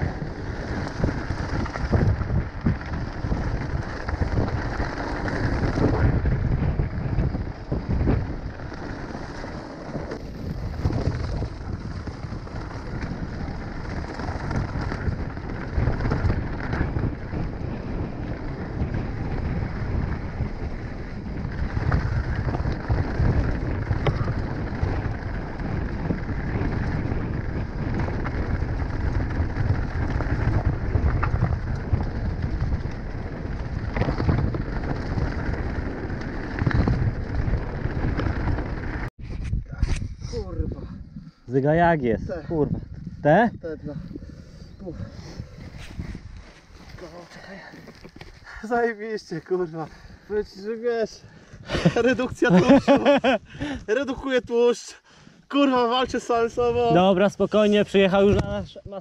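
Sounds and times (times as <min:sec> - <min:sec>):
bike tyres rattling on gravel: 0:00.0 - 0:39.1, 0:41.1 - 0:54.7, 0:55.6 - 0:59.0
wind buffeting microphone: 0:00.0 - 0:59.0.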